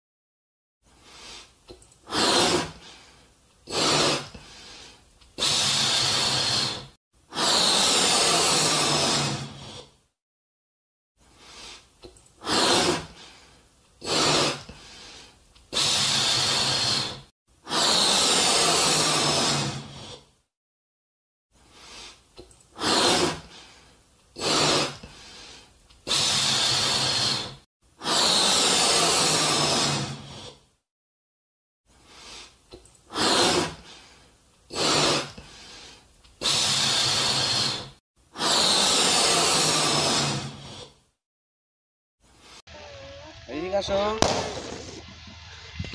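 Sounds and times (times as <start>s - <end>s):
breaths blown into balloons: 0.8s - 10.2s, 11.2s - 20.5s, 21.5s - 30.8s, 31.9s - 41.2s.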